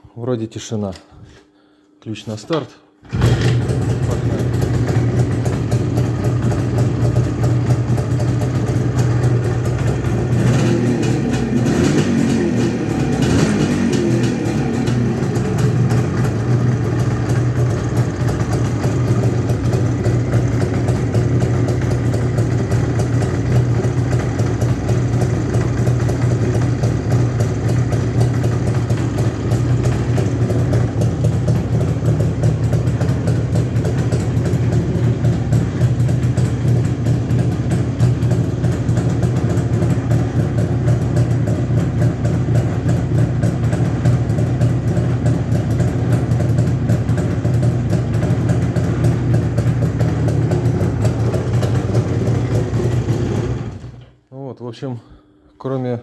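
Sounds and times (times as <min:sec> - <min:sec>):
motorcycle engine running: 0:03.0 - 0:54.1.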